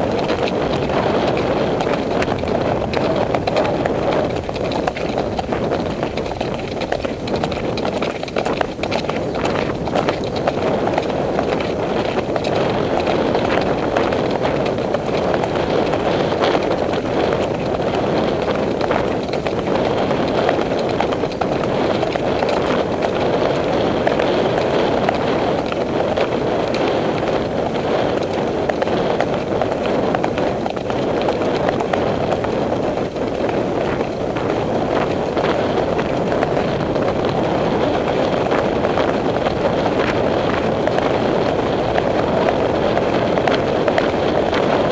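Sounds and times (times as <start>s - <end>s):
hoofbeats on dirt: 0.0s - 44.9s
muffled wind rush: 0.0s - 44.9s.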